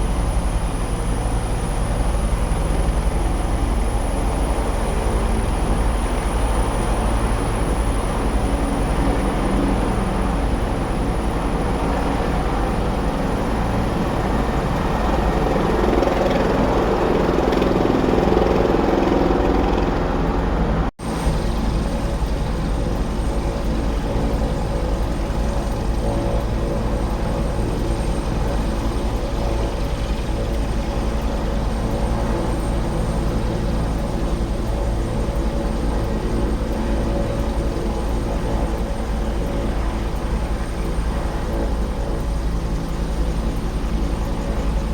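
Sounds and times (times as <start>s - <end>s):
engine rumble: 0.0s - 44.9s.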